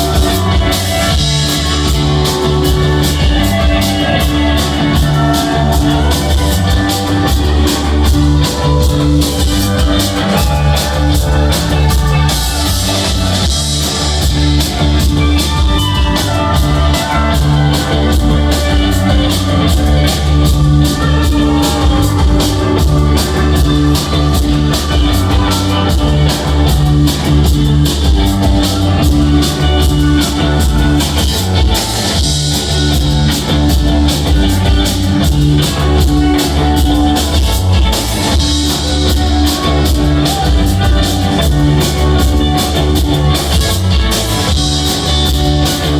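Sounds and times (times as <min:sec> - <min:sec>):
live rock band: 0:00.0 - 0:45.9.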